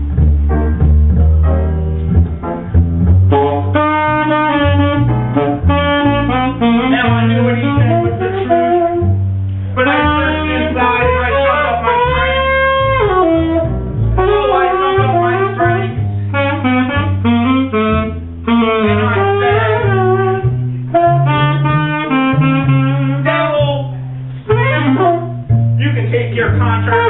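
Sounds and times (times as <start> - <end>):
free jazz saxophone: 0.0 - 27.0
low bass notes: 0.0 - 27.0
piano: 0.0 - 27.0.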